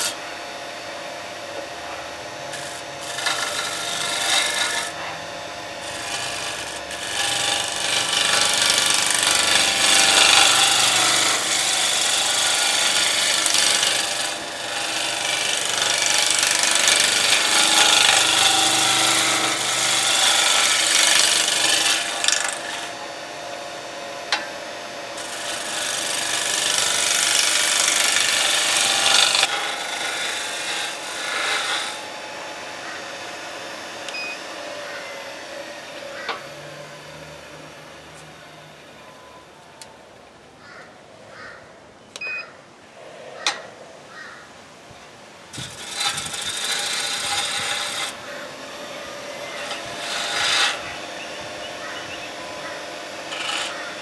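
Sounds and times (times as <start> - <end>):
tool cutting wood shavings: 0.0 - 0.2, 1.4 - 37.1, 45.5 - 54.0
lathe motor hum: 0.0 - 38.9, 45.5 - 54.0.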